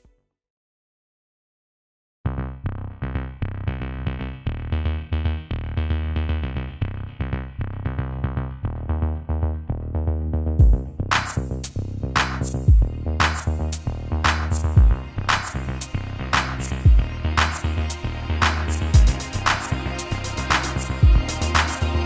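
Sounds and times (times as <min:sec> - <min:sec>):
electronic music with bass beat: 0:02.3 - 0:22.0.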